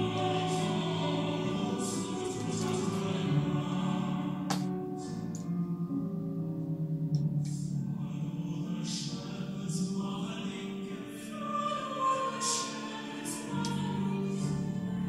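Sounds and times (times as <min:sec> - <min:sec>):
mixed choir singing: 0:00.0 - 0:05.4, 0:08.0 - 0:15.0
piano accompaniment: 0:00.0 - 0:15.0.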